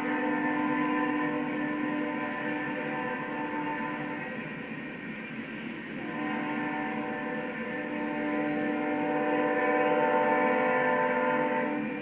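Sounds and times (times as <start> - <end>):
locomotive air horn chord: 0.0 - 4.2, 6.0 - 12.0
low rumble of passing train: 0.0 - 12.0.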